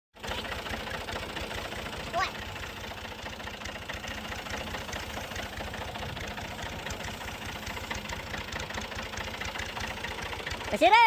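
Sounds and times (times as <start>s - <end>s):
tractor engine chugging: 0.2s - 11.0s.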